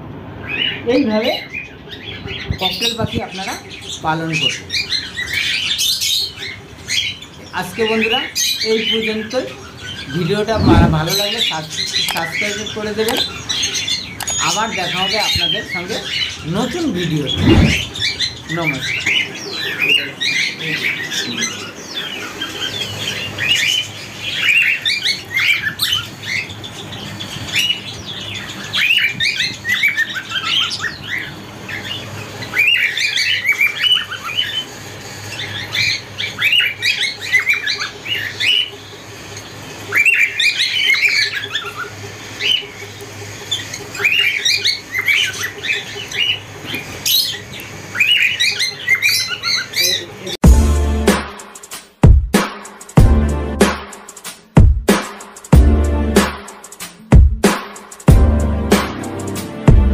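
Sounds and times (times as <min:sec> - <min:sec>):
cockatiels chirping and squawking: 0:00.4 - 0:50.4.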